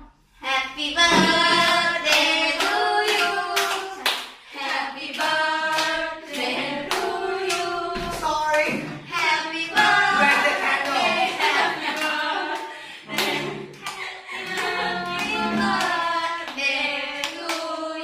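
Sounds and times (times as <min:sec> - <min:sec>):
group of voices singing: 0:00.0 - 0:18.0
rhythmic hand claps: 0:01.0 - 0:18.0.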